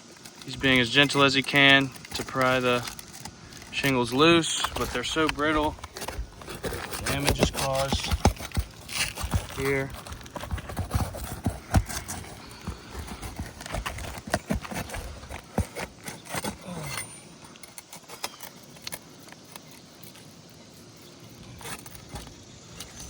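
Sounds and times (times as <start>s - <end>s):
metal tool prying roof shingles: 0.1s - 19.8s.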